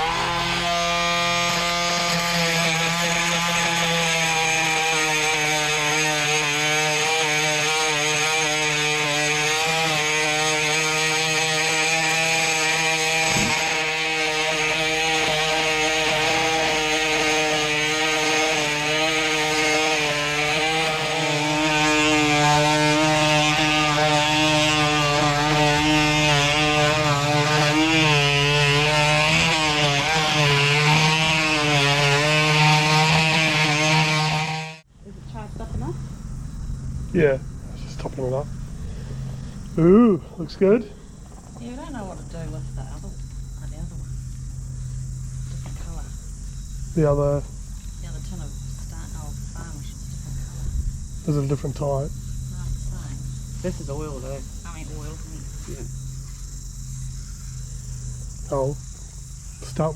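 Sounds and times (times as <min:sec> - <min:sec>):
electric power tool motor: 0:00.0 - 0:59.9.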